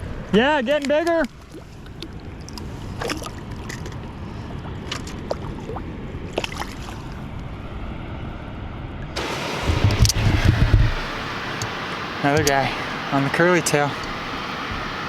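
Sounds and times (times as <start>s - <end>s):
water sloshing: 0.8s - 7.2s, 9.2s - 15.0s
steady low rumble: 1.5s - 15.0s.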